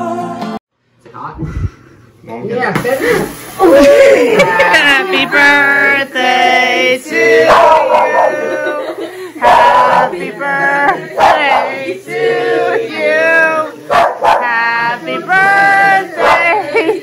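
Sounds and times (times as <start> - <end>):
group singing long held notes: 0.0 - 0.6, 3.6 - 17.0.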